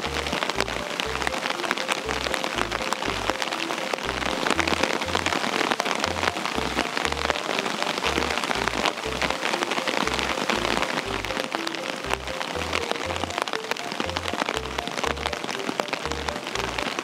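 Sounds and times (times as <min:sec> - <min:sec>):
background music with bass line: 0:00.0 - 0:17.0
steady rain falling: 0:00.0 - 0:17.0.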